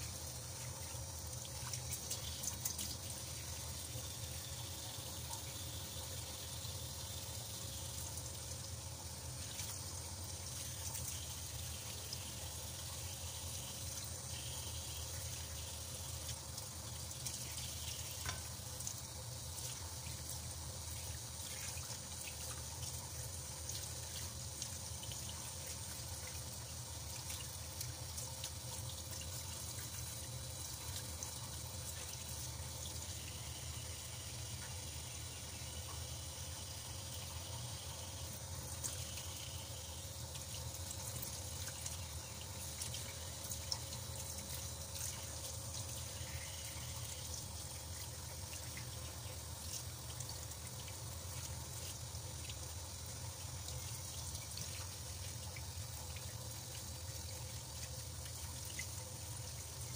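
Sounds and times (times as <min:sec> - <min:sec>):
tap water running into sink: 0:00.0 - 0:59.9.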